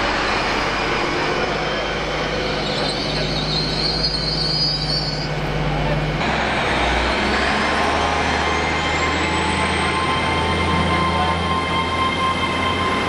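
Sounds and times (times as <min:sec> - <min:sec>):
wheel squeal: 0:00.0 - 0:05.5, 0:07.4 - 0:13.0
high whine rising in pitch: 0:00.0 - 0:13.0
train running on rails: 0:00.0 - 0:13.0.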